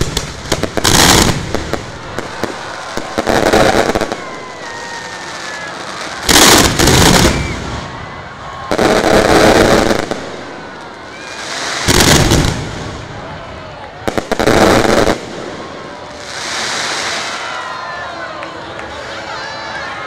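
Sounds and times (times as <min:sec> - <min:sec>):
loud firework blasts: 0:00.0 - 0:18.0.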